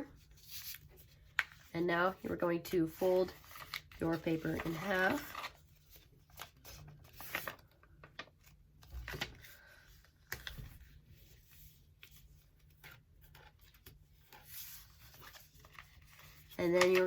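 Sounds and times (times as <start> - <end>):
paper rustling and creasing: 0.1 - 17.0.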